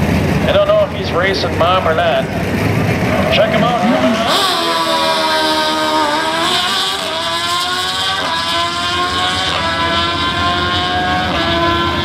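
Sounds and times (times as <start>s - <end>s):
engine at full throttle shifting: 0.0s - 12.0s.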